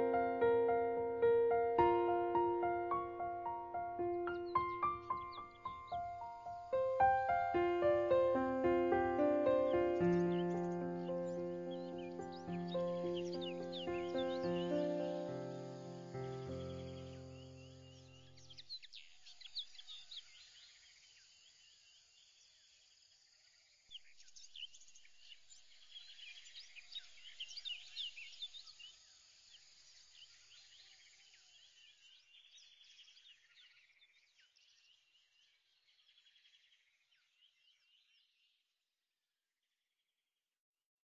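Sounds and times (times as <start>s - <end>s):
small birds chirping: 0.0s - 22.8s, 23.5s - 38.6s.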